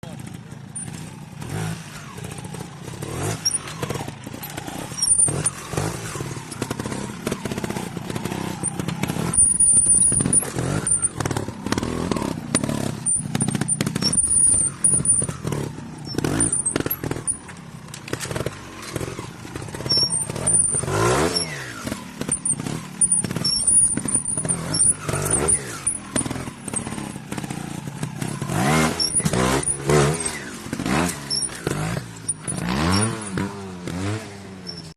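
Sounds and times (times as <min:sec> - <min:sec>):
motorcycle engine revving: 0:00.0 - 0:34.9
short high squeaks: 0:03.2 - 0:06.6, 0:07.4 - 0:27.1, 0:28.2 - 0:33.5, 0:34.6 - 0:34.9.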